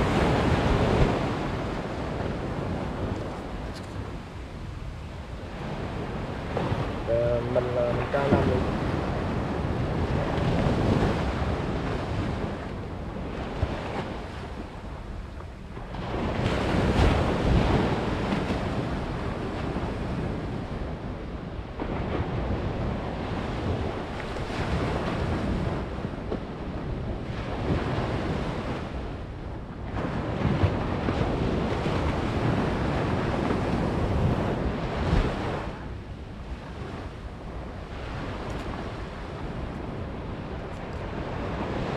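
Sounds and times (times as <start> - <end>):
surf washing up a beach: 0.0 - 41.9
wind buffeting microphone: 0.0 - 41.9.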